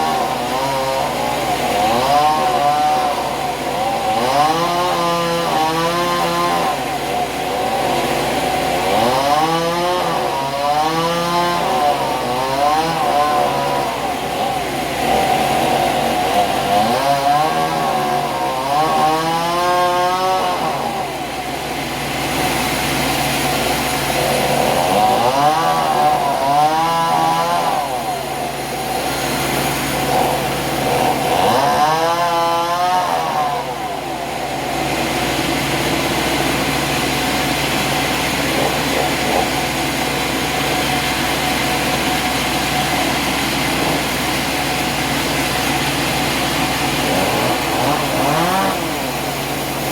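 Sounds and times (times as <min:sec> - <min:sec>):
engine-driven saw running: 0:00.0 - 0:49.9.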